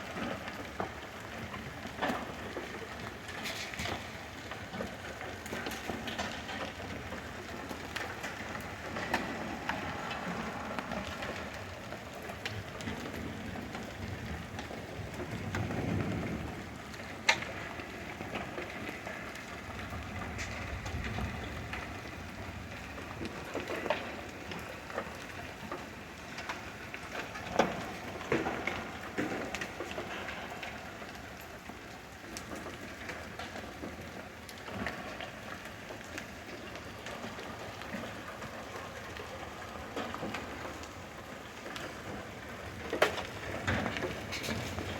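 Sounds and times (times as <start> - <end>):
hail and rain downpour: 0.0 - 44.9
hailstones knocking hard surfaces: 0.0 - 44.9.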